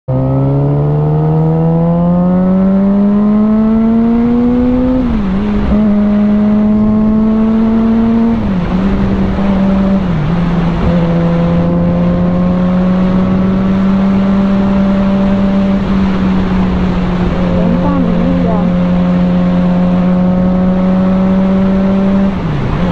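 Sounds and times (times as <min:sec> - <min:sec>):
motorcycle engine accelerating: 0:00.1 - 0:22.9
wind and road noise: 0:00.1 - 0:22.9.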